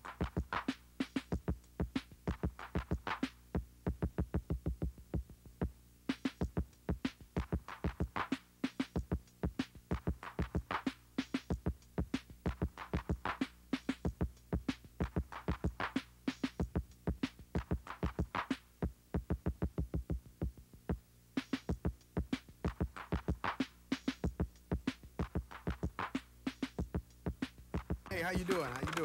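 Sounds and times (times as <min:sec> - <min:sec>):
hip-hop drum machine beat: 0:00.0 - 0:29.0.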